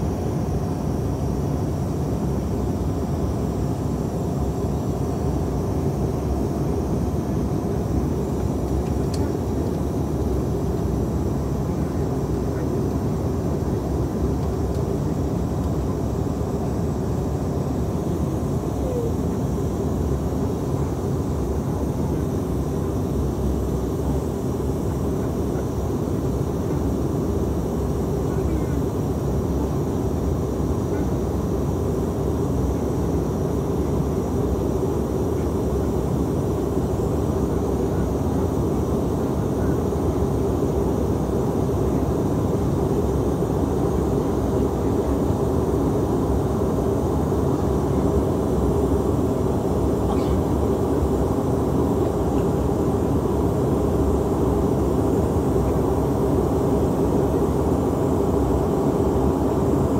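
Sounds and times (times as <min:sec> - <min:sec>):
jet cabin engine drone: 0:00.0 - 0:59.9.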